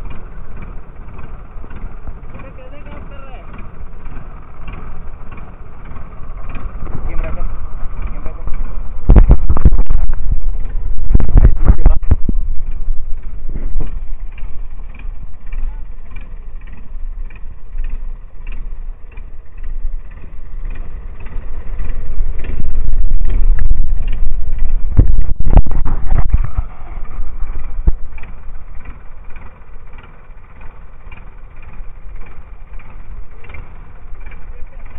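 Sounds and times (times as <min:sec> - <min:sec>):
boat engine rumbling: 0:00.0 - 0:34.9.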